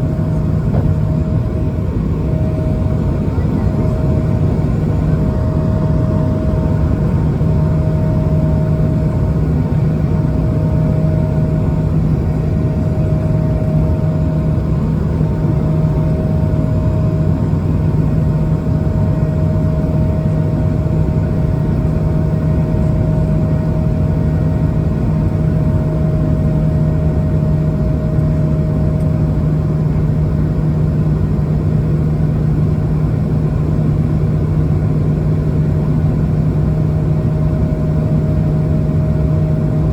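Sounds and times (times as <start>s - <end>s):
jet engines heard inside cabin: 0.0s - 39.9s.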